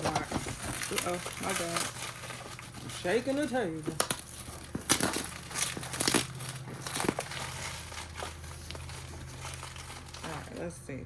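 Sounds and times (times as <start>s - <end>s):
packaging crinkling: 0.0s - 10.7s.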